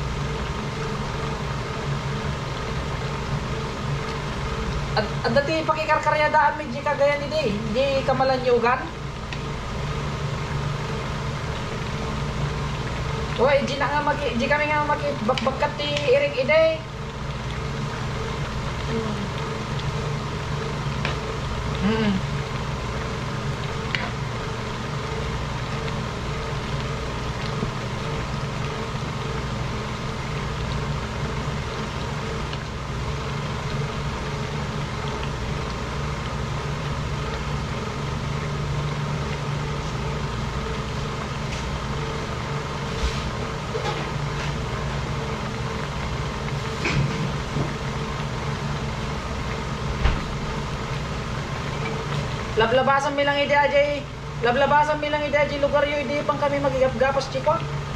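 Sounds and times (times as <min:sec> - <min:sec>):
machinery droning: 0:00.0 - 0:57.9.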